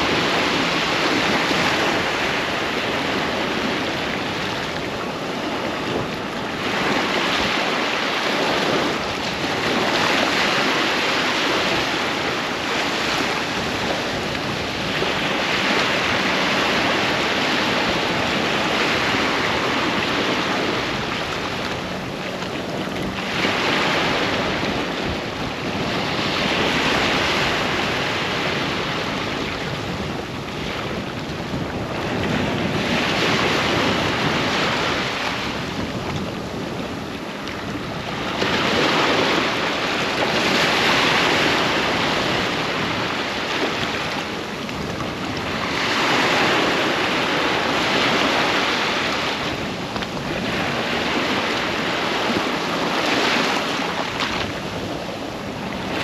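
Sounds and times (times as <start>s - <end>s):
waves breaking on a beach: 0.0s - 56.0s
wind noise on microphone: 0.0s - 56.0s.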